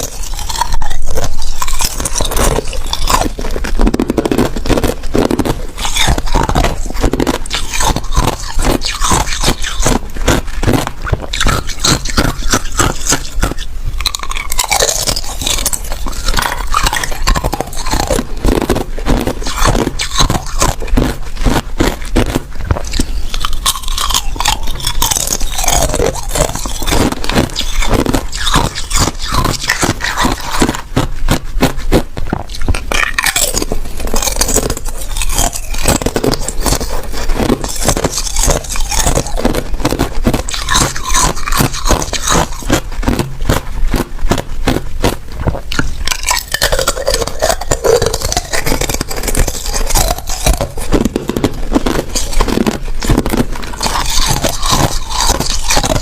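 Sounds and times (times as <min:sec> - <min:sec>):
chewing ice crunches: 0:00.0 - 0:56.0.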